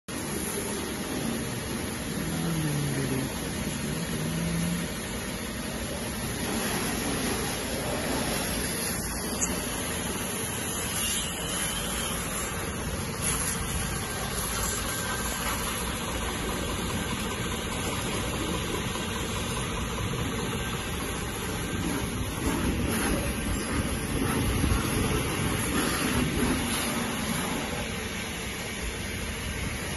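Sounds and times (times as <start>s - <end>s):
pressure washer pump humming: 0.1s - 29.9s
water jet spraying: 0.1s - 29.9s.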